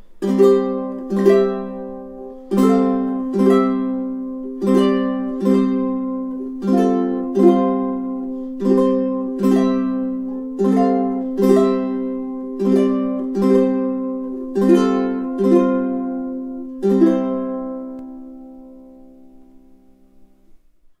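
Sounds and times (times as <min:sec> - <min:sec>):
ukulele strumming chords: 0:00.0 - 0:20.7.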